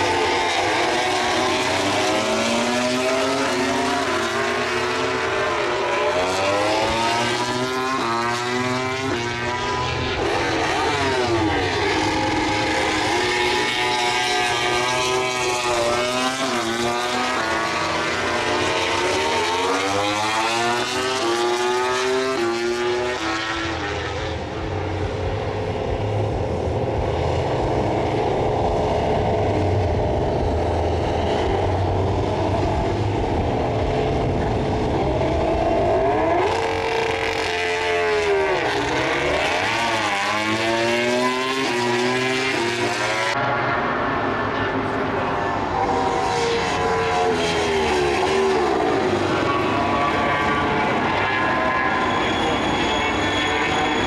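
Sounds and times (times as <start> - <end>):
racing motorcycles accelerating: 0.0 - 54.0.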